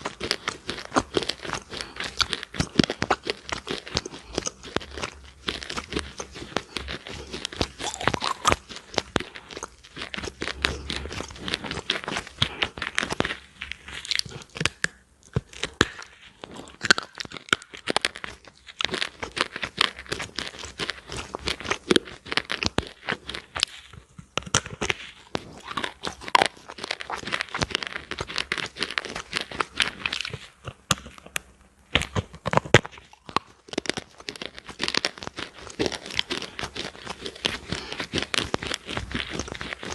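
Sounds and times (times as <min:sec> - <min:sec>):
crunching brittle food: 0:00.0 - 0:39.9.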